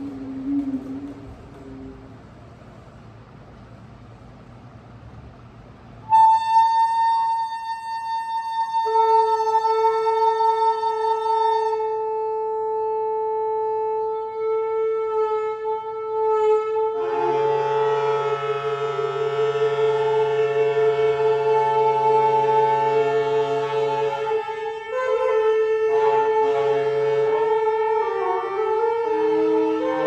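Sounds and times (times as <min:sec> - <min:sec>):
saxophones holding long notes: 0:00.0 - 0:03.3, 0:06.0 - 0:30.0.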